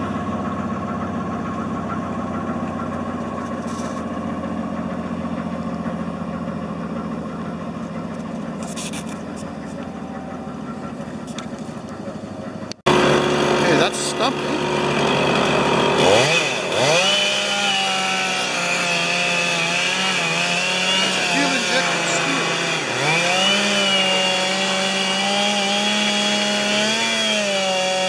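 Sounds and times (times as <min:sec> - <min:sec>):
engine idling: 0:00.0 - 0:27.4.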